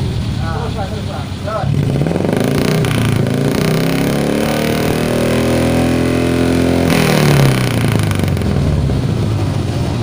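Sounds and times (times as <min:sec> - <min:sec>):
motorcycle engine revving: 0:01.5 - 0:10.0.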